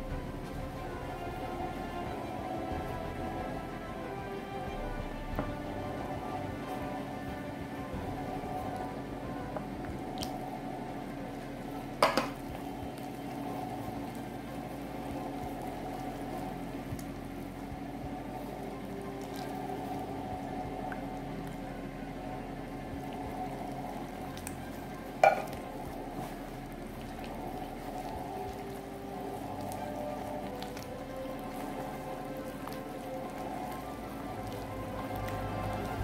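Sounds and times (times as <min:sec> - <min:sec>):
hand squishing wet dough: 0:00.0 - 0:36.0.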